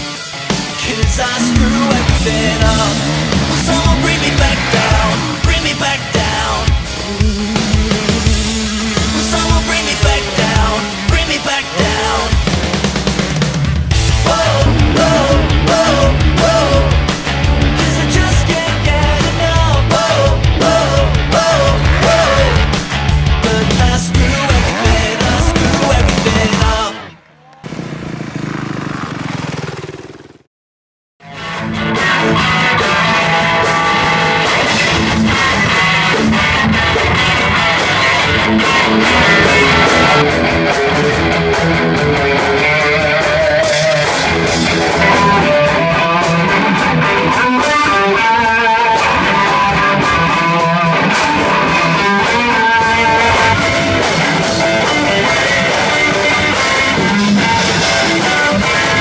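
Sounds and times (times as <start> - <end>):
rock band playing: 0.0 - 27.1, 31.2 - 59.0.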